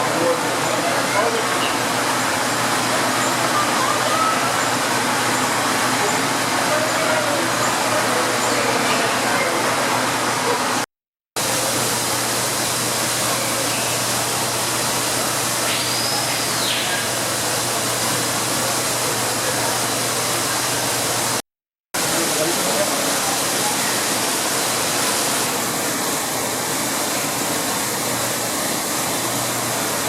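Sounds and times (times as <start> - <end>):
rush of falling water: 0.0 - 21.4, 22.0 - 30.0.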